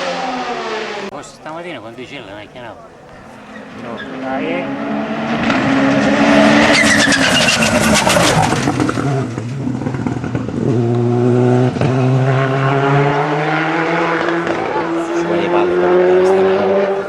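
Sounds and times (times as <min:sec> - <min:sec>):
race car passing at full throttle: 0:00.0 - 0:17.0.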